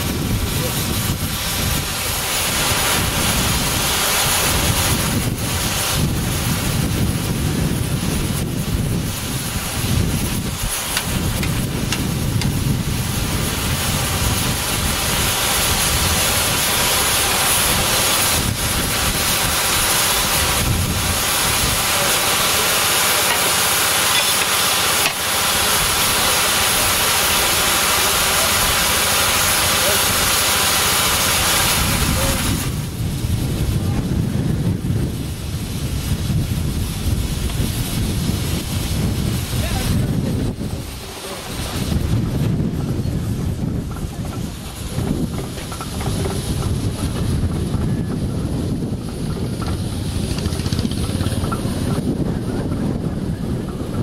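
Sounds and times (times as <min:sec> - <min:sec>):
steam hissing: 0:00.0 - 0:54.0.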